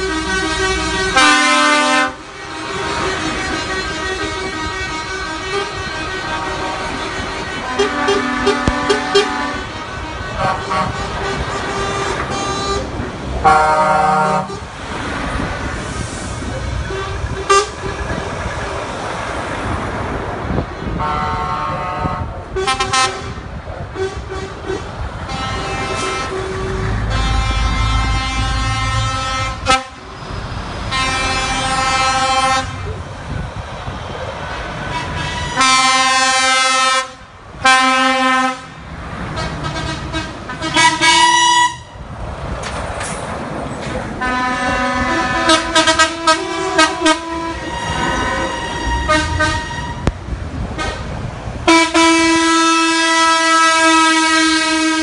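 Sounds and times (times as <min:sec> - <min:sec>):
truck air horns blasting: 0:00.0 - 0:14.8, 0:15.8 - 0:18.0, 0:20.8 - 0:33.1, 0:34.7 - 0:42.0, 0:44.2 - 0:55.0
diesel engines rumbling: 0:00.0 - 0:55.0.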